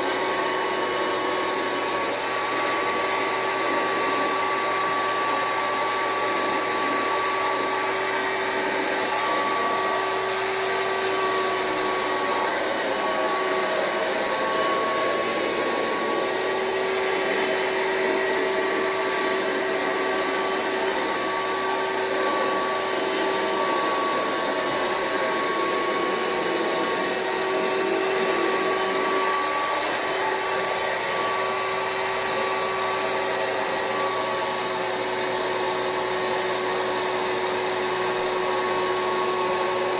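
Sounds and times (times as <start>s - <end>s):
carpet extractor vacuum whine: 0.0s - 39.9s.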